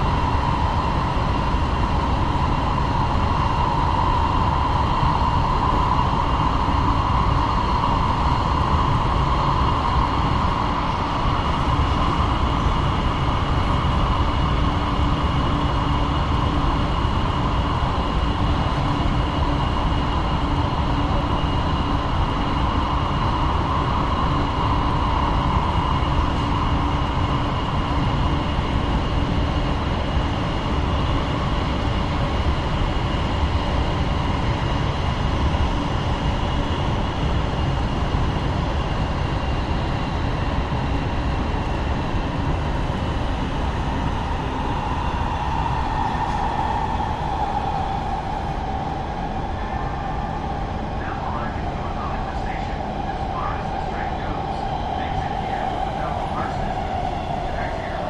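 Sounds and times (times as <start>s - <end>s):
train rumbling with whine: 0.0s - 58.0s.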